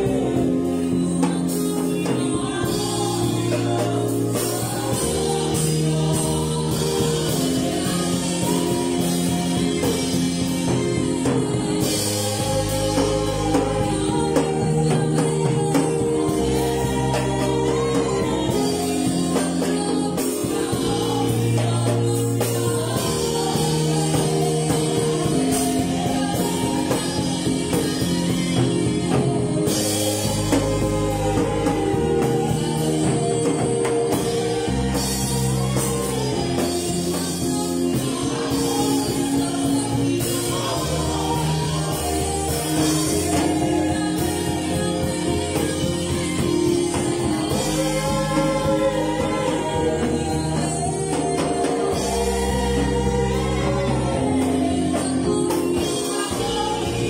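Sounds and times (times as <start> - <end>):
drum kit beat: 0.0 - 57.0
electronic keyboard chords: 0.0 - 57.0
woman singing: 0.0 - 57.0.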